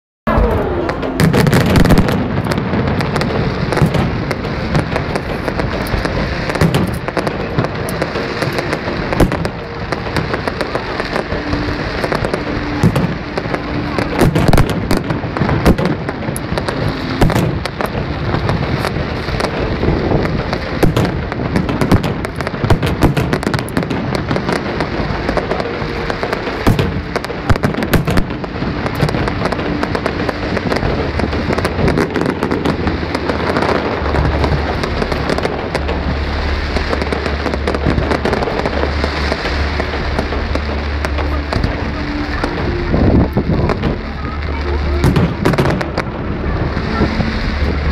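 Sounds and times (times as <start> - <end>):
fireworks bangs and crackling: 0.3 - 47.9.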